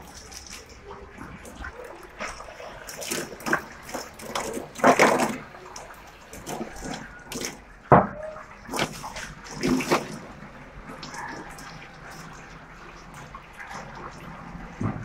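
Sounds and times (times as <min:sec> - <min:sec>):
water splashing in a tank: 0:00.0 - 0:15.0.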